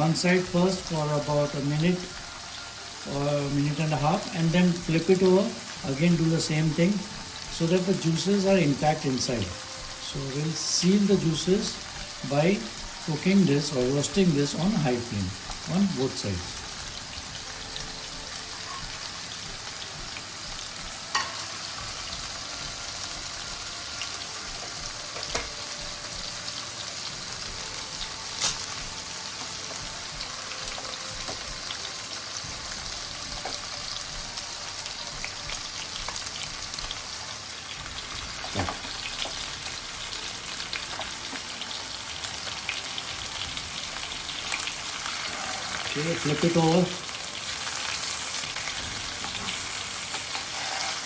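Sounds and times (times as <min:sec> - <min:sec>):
chicken sizzling in a pan: 0:00.0 - 0:51.0.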